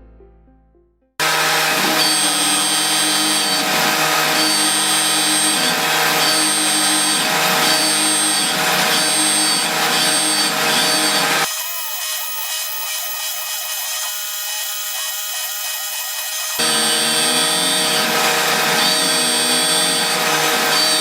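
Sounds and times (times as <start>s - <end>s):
cnc machine cutting: 1.2s - 21.0s.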